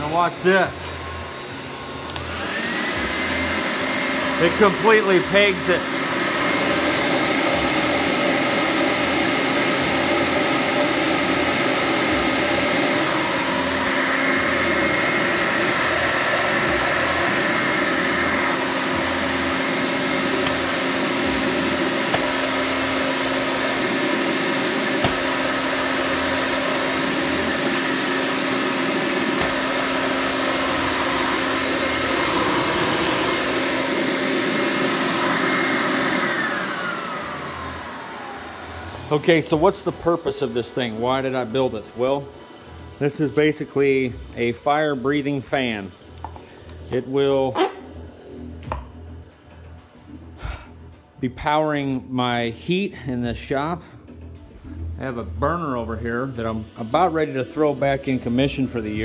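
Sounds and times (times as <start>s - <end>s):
electric blower motor whine: 0.0s - 51.2s.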